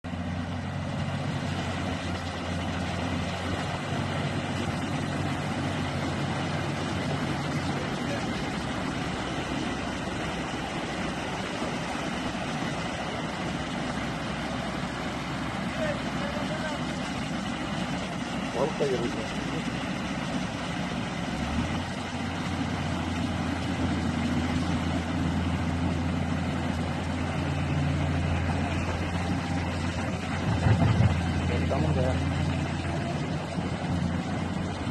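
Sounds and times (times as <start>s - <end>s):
diesel engine humming: 0.0s - 34.9s.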